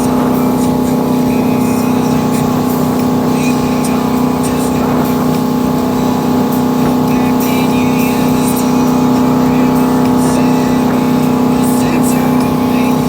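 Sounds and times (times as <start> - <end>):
motorboat engine drone: 0.0 - 13.0.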